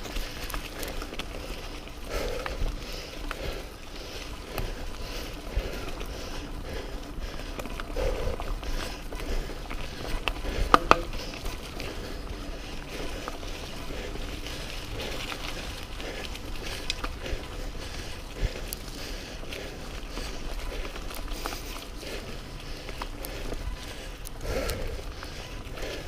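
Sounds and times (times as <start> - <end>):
bike rattling on dirt trail: 0.0 - 26.0.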